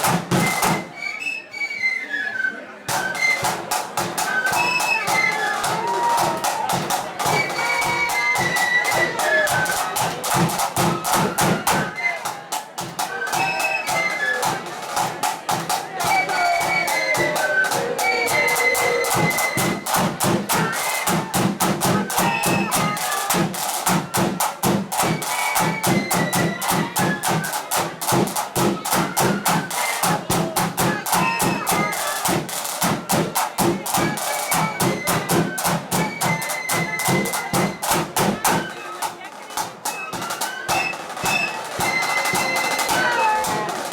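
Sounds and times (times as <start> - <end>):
rapid snare drumming: 0.0 - 0.9, 2.9 - 43.9
flute melody: 0.0 - 43.9.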